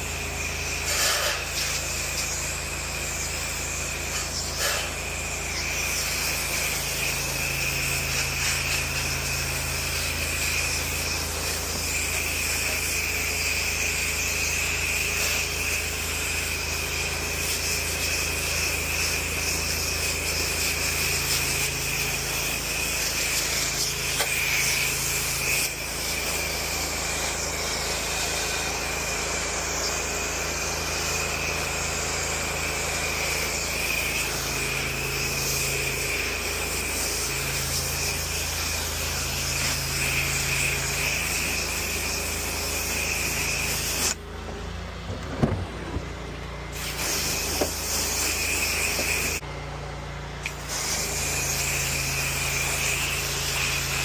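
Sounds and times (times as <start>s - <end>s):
pressure washer water spray hiss: 0.0s - 44.3s, 46.7s - 49.4s, 50.4s - 54.0s
pump engine hum: 0.0s - 54.0s.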